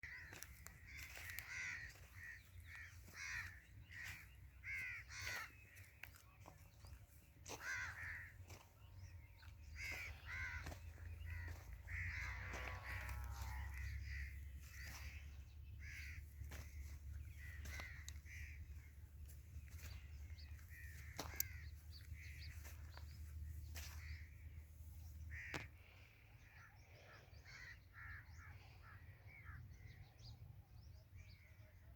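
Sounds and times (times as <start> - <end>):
crow-like bird caws: 0.0 - 6.2, 6.8 - 29.9.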